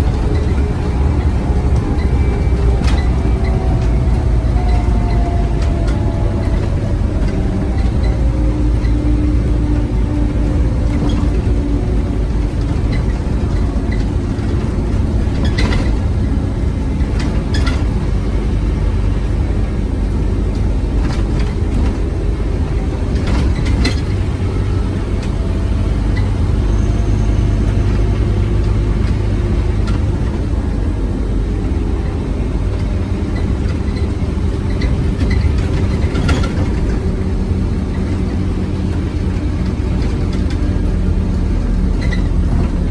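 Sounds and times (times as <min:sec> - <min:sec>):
bus diesel engine rumbling: 0:00.0 - 0:42.9.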